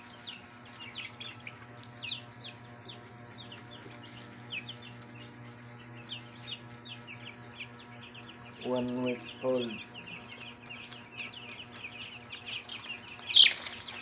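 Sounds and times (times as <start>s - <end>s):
chicks peeping: 0.0s - 14.0s
steady low hum: 0.0s - 14.0s.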